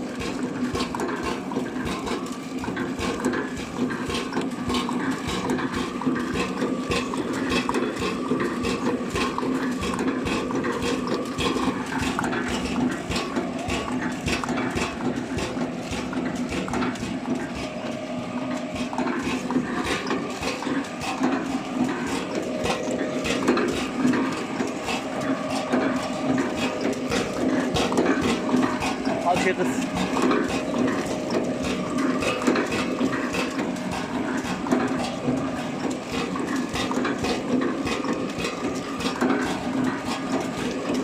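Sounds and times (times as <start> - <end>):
packaging machine humming: 0.0 - 41.0
rapid continuous clicking: 0.0 - 41.0.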